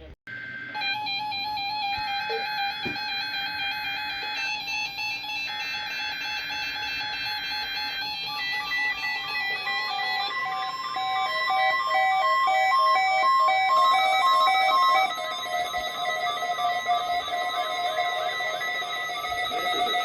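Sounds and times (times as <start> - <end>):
weather alert radio alarms beeping: 0.3 - 20.0.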